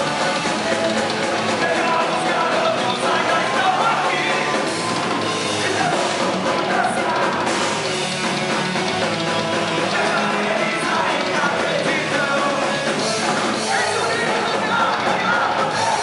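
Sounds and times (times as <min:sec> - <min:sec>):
live punk band playing: 0:00.0 - 0:16.0.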